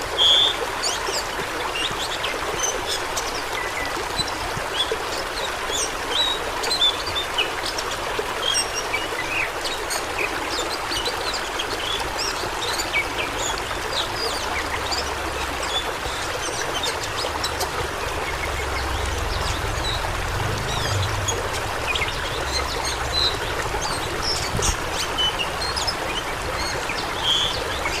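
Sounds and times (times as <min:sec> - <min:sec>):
rushing stream water: 0:00.0 - 0:28.0.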